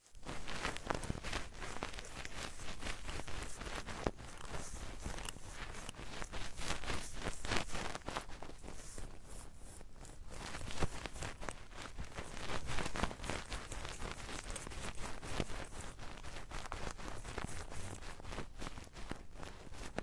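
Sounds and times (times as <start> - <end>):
small taps and crackles: 0.0 - 20.0.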